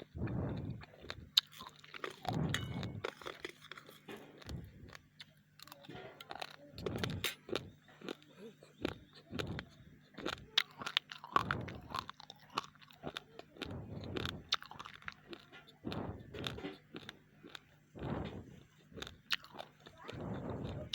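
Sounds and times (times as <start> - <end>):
crunching raw rice: 0.0 - 20.9
mouth chewing sounds: 0.0 - 20.9.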